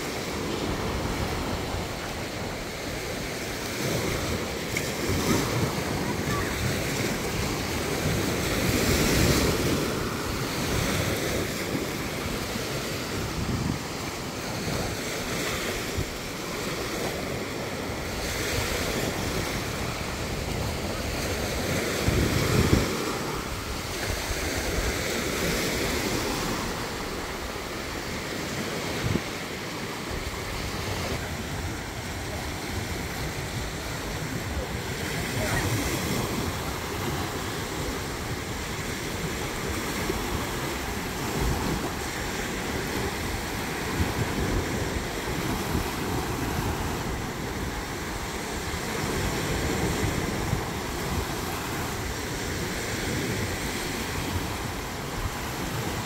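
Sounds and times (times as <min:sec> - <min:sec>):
small waves breaking on beach: 0:00.0 - 0:56.0
wind buffeting microphone: 0:00.0 - 0:56.0.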